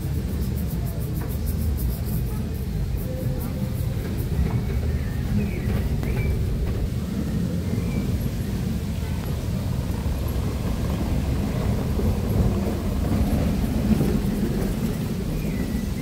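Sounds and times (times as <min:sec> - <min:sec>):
wind buffeting microphone: 0:02.8 - 0:16.0.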